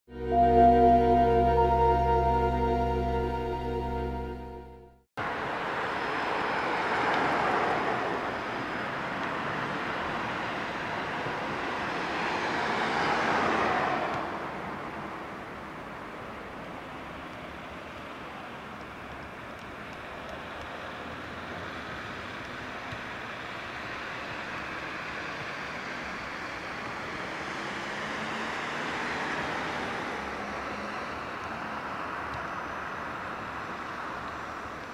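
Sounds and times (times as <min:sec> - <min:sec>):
traffic noise: 0:05.2 - 0:34.9.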